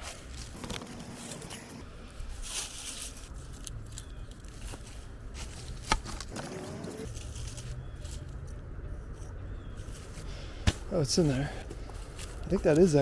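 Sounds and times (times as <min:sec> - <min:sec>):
digging in loose soil: 0:00.0 - 0:13.0.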